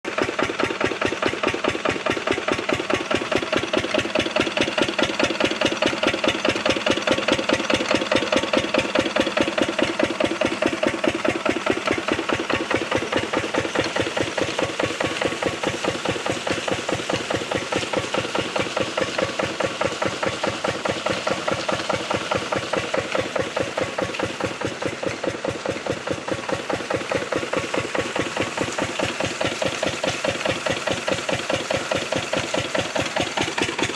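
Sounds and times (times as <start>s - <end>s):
diesel engine running a water pump: 0.1s - 33.9s.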